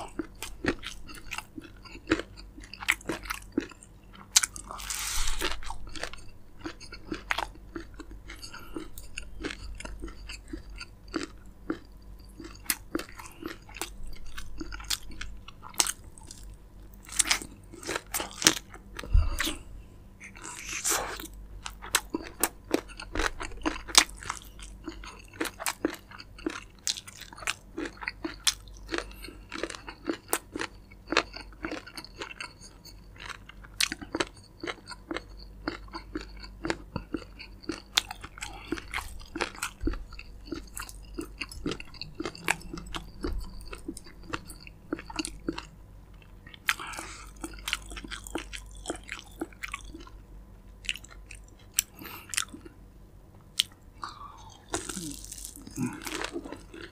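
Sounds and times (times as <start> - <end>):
fried chicken crunching: 0.0 - 19.6, 20.2 - 50.2, 53.6 - 56.9.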